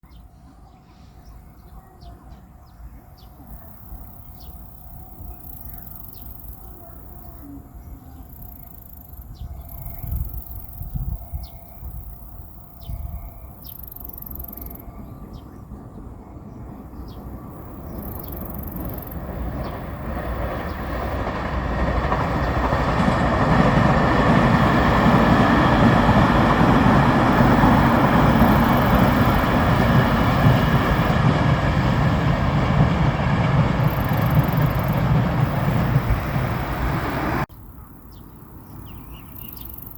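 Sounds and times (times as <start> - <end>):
train rumbling and rushing past: 0.1 - 39.9.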